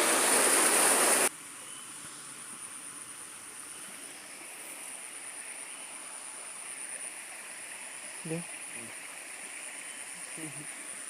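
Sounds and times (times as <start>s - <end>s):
low even hiss: 0.0s - 11.0s.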